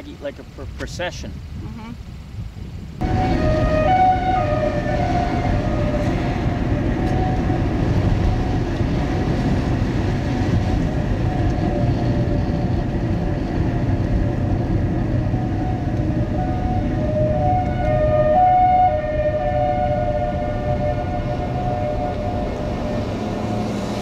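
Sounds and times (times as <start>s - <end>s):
loud steady rumble: 0.0s - 24.0s
siren wailing: 3.0s - 24.0s.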